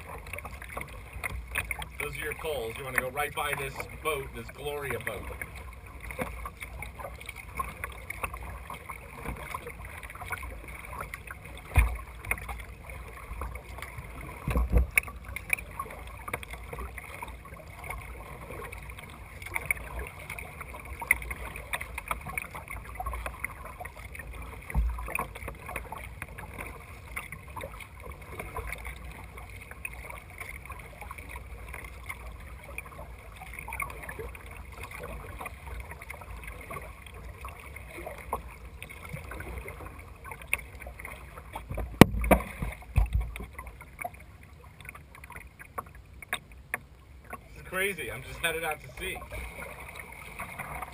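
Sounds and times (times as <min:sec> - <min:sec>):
water splashing against a kayak: 0:00.0 - 0:50.9.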